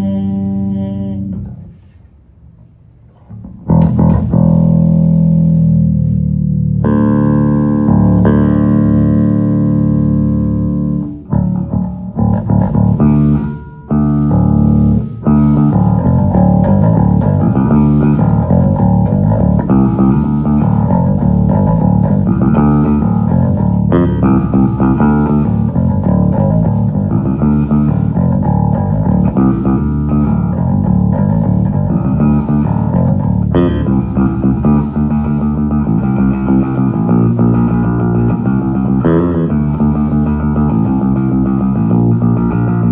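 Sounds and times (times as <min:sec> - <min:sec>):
bass guitar playing: 0:00.0 - 0:42.9.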